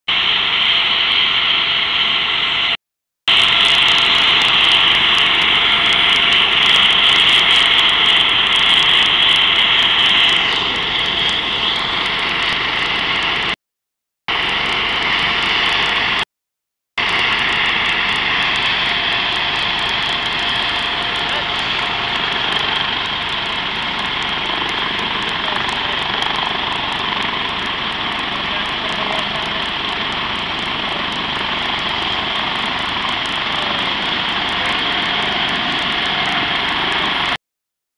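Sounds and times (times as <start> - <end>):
helicopter rotor noise: 0.1 - 13.6, 14.3 - 16.2, 17.0 - 37.4
high-pitched turbine whine: 0.1 - 13.6, 14.3 - 16.2, 17.0 - 37.4.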